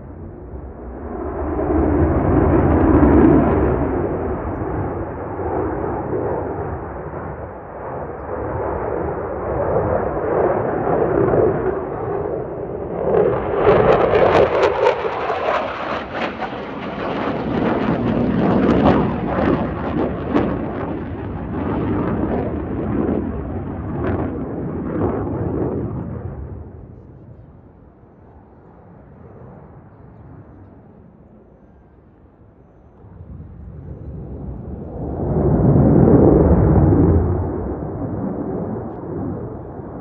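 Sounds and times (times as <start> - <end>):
jet engine rumble and crackling: 0.0 - 40.0.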